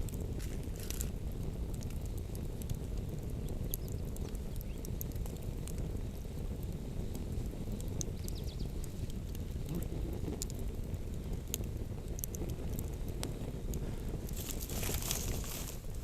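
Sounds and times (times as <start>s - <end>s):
campfire crackling and popping: 0.0s - 16.0s
wind rumble on microphone: 0.0s - 16.0s.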